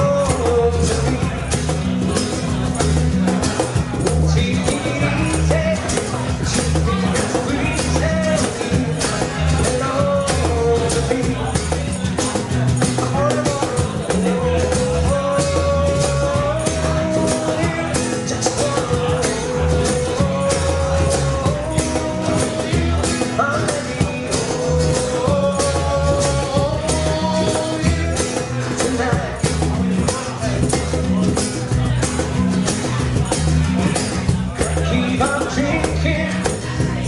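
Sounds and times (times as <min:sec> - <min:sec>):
bass line: 0:00.0 - 0:37.0
cajon beat: 0:00.0 - 0:37.0
live band playing: 0:00.0 - 0:37.0.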